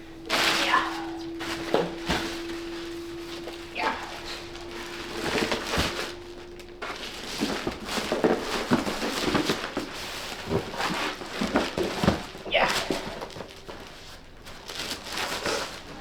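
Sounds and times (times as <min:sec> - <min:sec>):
steady hum: 0:00.0 - 0:16.0
packaging rustling and crinkling: 0:00.1 - 0:16.0.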